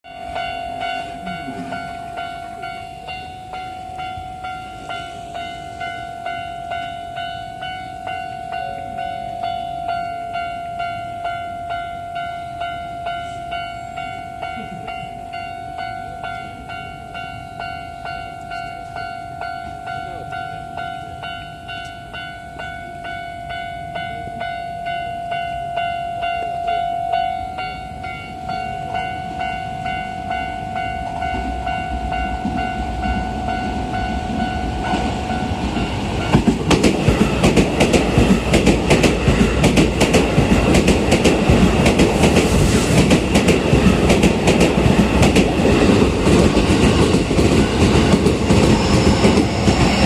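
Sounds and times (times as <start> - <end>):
level-crossing alarm bell clanging: 0.0 - 50.0
low rumble of train: 0.1 - 50.0.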